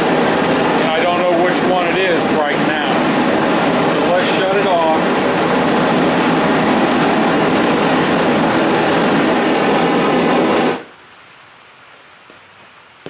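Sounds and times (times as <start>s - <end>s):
gas forge burners roaring: 0.0s - 10.9s.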